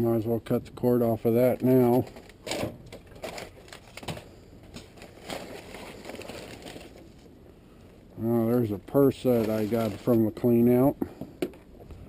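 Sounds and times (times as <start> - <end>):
rustling and crinkling: 1.4 - 8.1, 8.7 - 12.0.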